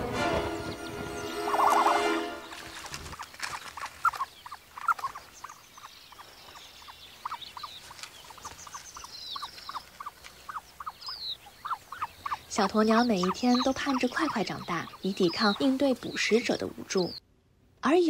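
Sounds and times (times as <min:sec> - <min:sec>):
chicks peeping: 0:00.4 - 0:17.2
faint high twittering: 0:00.4 - 0:17.2.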